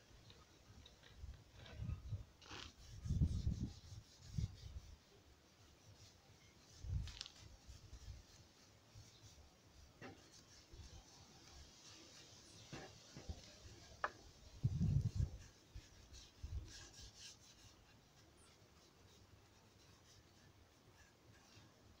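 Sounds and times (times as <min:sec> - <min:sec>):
brush bristles rubbing on wood: 0:01.8 - 0:22.0.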